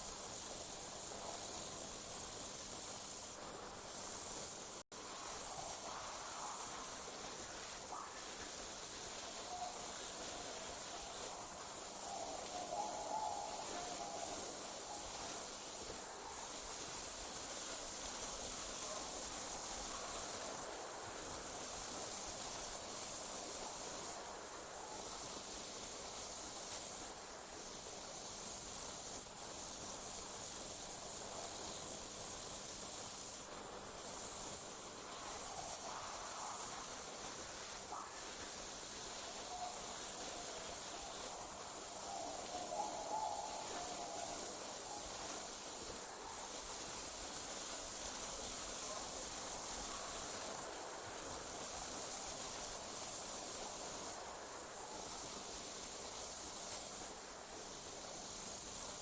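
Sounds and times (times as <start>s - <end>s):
crickets trilling: 0.1s - 24.3s, 24.9s - 59.0s.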